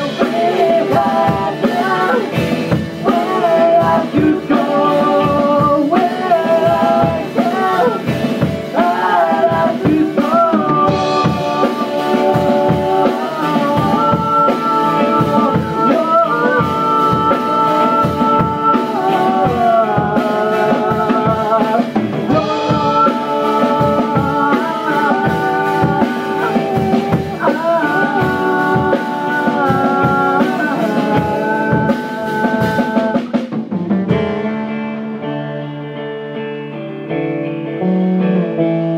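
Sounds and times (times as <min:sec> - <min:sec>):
person singing long notes: 0:00.0 - 0:33.6
drums: 0:00.0 - 0:38.9
rock band song: 0:00.0 - 0:38.9.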